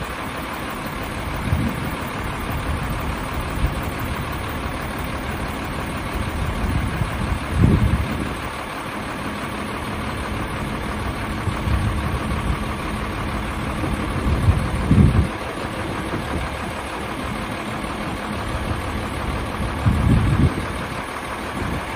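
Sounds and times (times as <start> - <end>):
truck diesel engine idling: 0.0 - 21.9.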